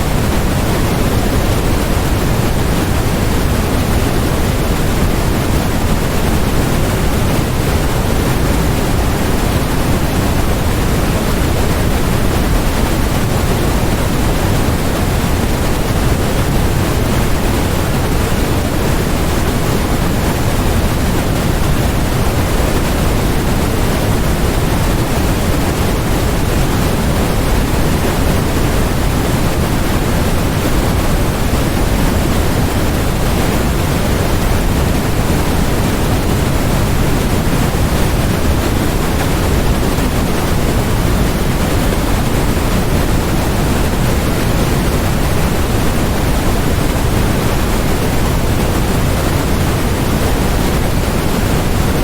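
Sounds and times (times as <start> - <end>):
steady generated noise: 0.0 - 52.0.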